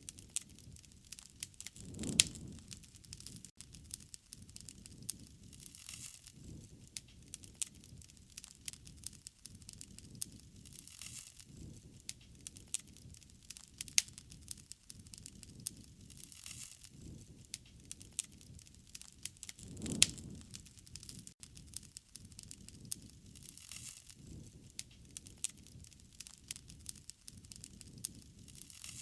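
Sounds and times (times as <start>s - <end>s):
wood crackling and popping: 0.0s - 29.0s
whoosh of flames: 0.1s - 29.0s.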